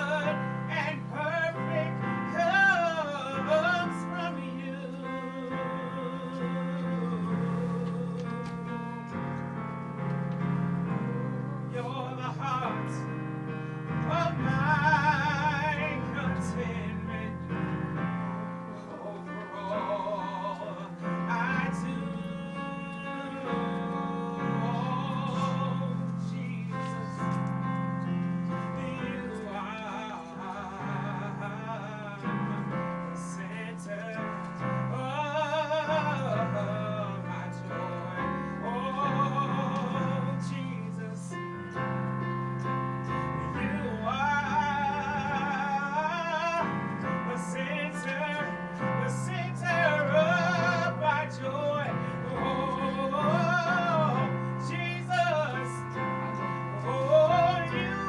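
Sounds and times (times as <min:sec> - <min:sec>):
person singing with vibrato: 0:00.0 - 0:09.3, 0:10.5 - 0:27.5, 0:28.1 - 0:41.8, 0:43.0 - 0:58.0
piano accompaniment: 0:00.0 - 0:58.0.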